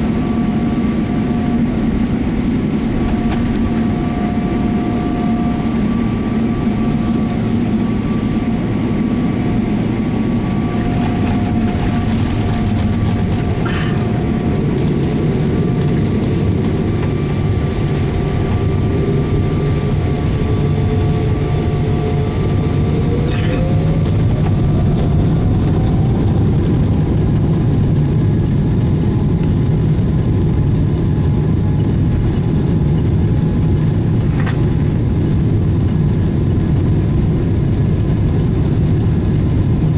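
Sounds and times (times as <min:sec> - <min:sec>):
jet engine hum and rumble: 0:00.0 - 0:39.9
rising engine whine: 0:00.0 - 0:39.9.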